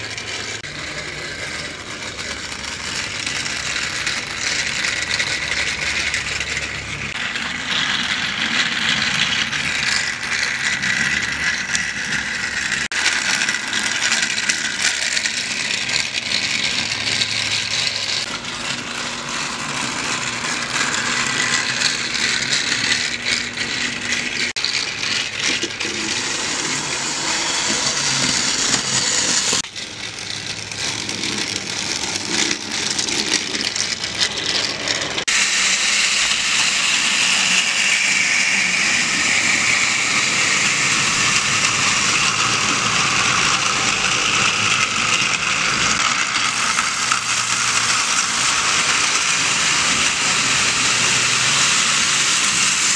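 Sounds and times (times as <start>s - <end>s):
toy trains whirring and rattling: 0.0s - 52.9s.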